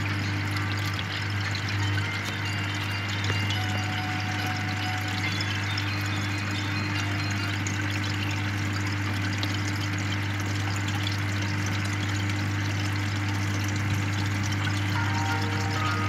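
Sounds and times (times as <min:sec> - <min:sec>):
air pump humming: 0:00.0 - 0:16.0
air stone bubbling in water: 0:00.0 - 0:16.0.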